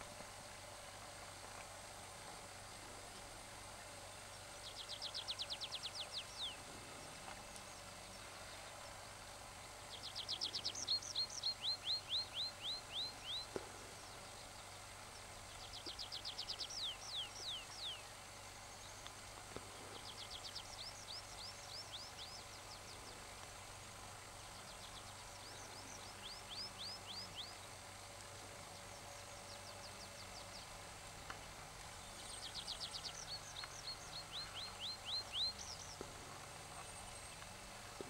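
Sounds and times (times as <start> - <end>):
songbird singing: 2.6 - 38.0.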